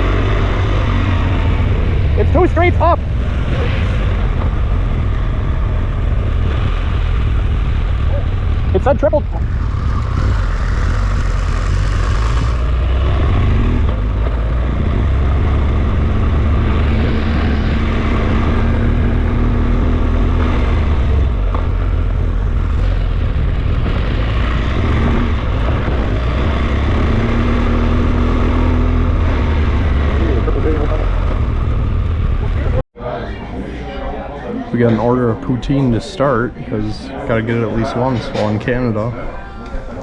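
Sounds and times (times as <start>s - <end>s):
car road and engine rumble: 0.0s - 32.9s.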